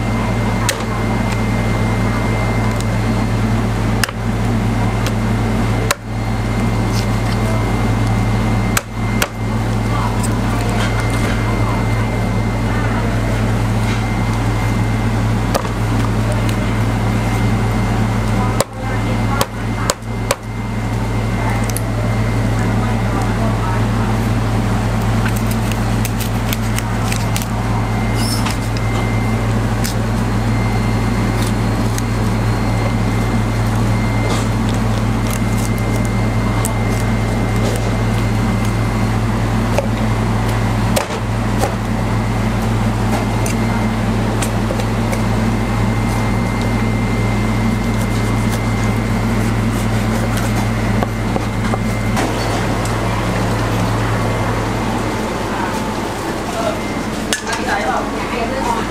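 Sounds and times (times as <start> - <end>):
low machine hum: 0.0 - 58.9.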